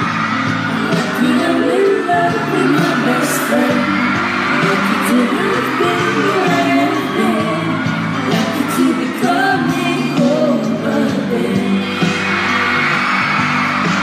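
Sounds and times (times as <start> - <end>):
backing music track: 0.0 - 14.0
man and woman singing a duet: 0.7 - 12.4.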